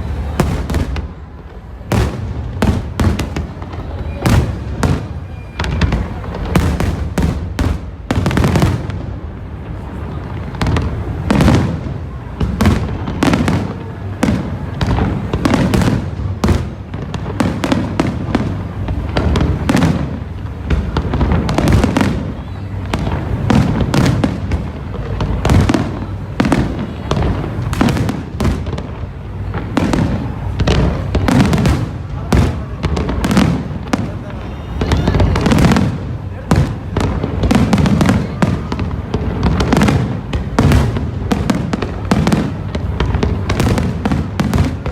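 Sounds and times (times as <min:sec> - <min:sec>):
firework bursts booming: 0:00.0 - 0:44.9
fireworks crackling: 0:00.0 - 0:44.9.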